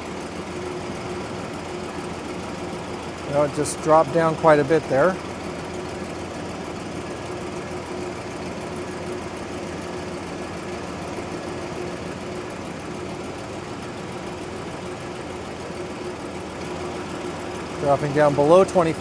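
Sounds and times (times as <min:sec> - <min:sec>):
air conditioning compressor: 0:00.0 - 0:19.0
constant low hum: 0:00.0 - 0:19.0
engine idling: 0:00.0 - 0:19.0.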